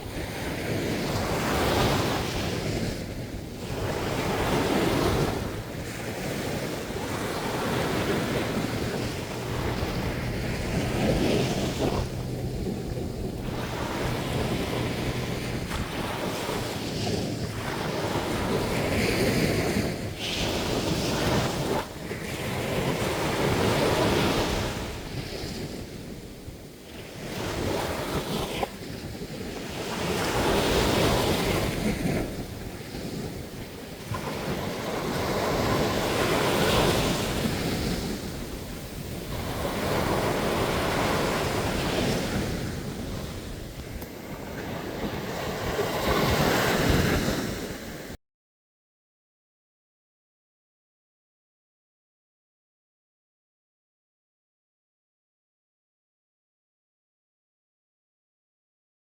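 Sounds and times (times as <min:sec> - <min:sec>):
sea waves breaking on a beach: 0:00.0 - 0:48.2.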